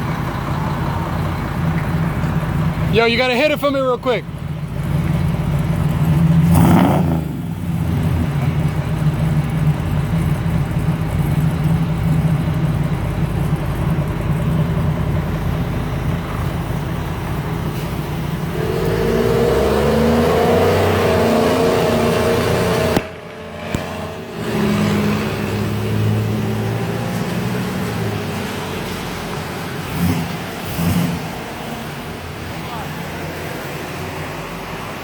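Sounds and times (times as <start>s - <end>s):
car engine revving: 1.8s - 35.0s.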